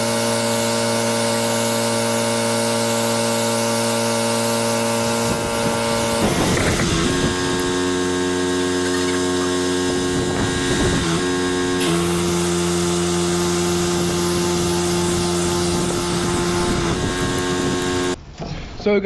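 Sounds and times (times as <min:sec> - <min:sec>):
pressure washer engine humming: 0:00.0 - 0:18.2.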